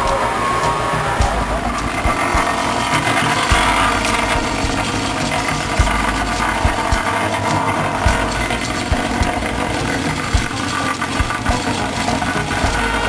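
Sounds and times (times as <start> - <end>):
machinery engine idling: 0.0 - 13.0
sharp low thumps: 0.0 - 13.0.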